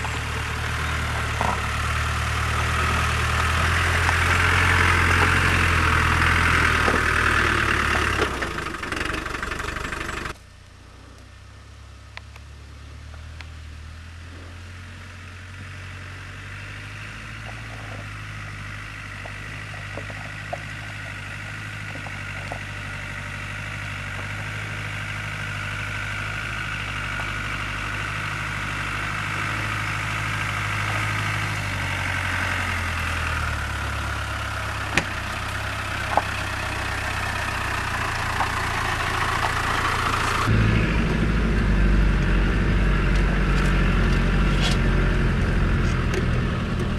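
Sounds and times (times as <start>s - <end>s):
deep engine rumble inside cab: 0.0s - 46.9s
diesel engine running: 0.0s - 46.9s.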